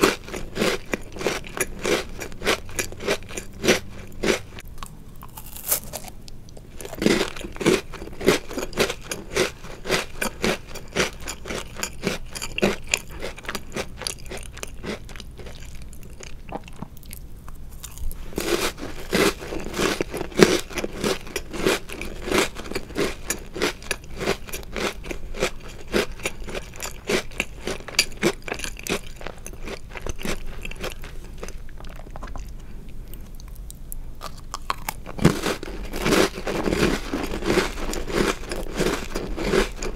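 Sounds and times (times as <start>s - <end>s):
chewing crunchy cookies: 0.0s - 39.9s.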